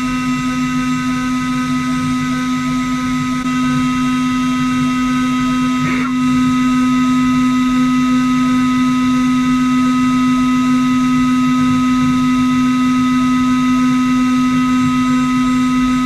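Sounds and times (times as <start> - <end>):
cnc router whine: 0.0 - 16.0.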